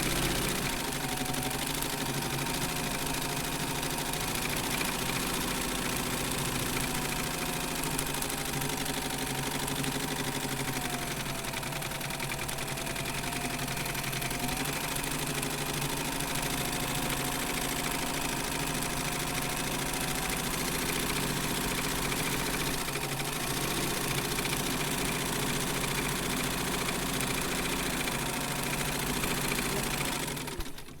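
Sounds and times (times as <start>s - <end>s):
sewing machine running: 0.0s - 31.0s.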